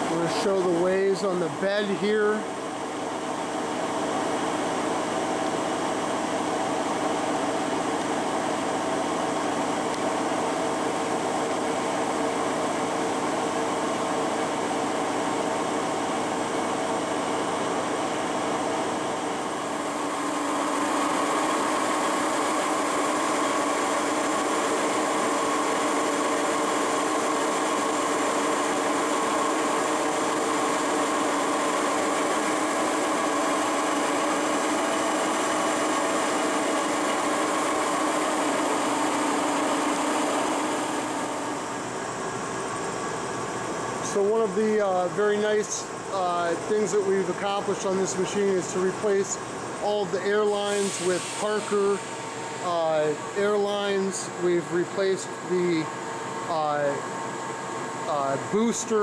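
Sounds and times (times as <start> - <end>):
boring mill whine: 0.0 - 59.0.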